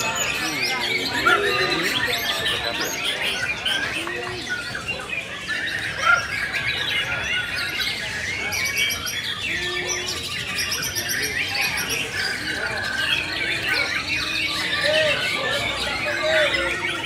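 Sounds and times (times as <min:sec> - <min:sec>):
songbirds singing chorus: 0:00.0 - 0:17.0.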